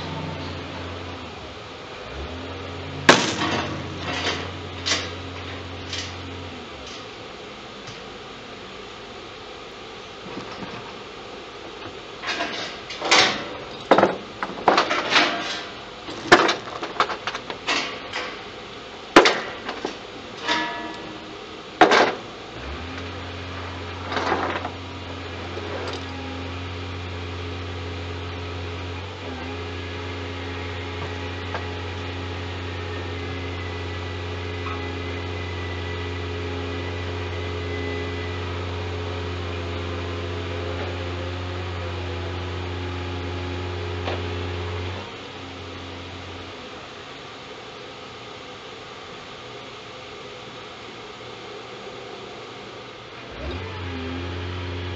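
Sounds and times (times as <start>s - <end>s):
low machine hum: 0.0s - 54.9s.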